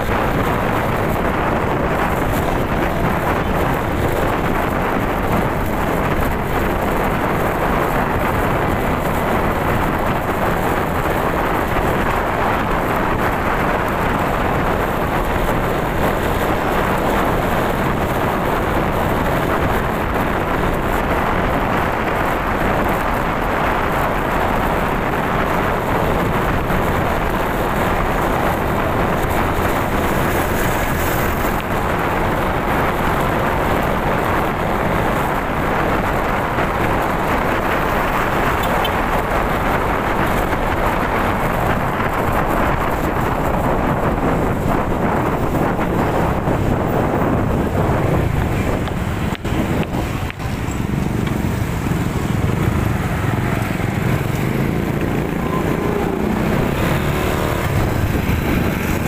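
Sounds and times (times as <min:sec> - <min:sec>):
motorcycle engine running: 0:00.0 - 0:59.0
road noise: 0:00.0 - 0:59.0
wind rushing: 0:00.0 - 0:59.0.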